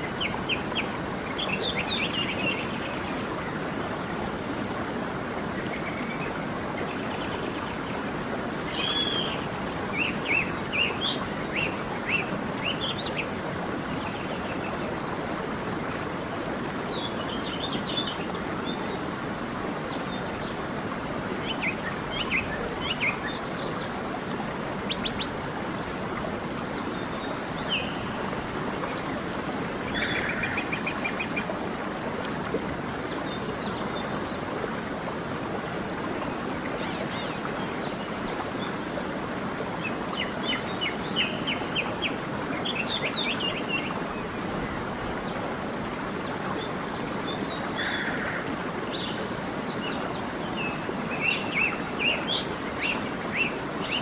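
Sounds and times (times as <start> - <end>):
creek running: 0.0 - 54.0.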